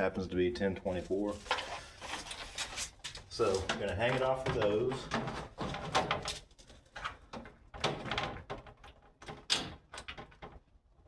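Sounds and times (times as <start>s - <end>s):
plastic scraping against door: 1.4s - 10.6s.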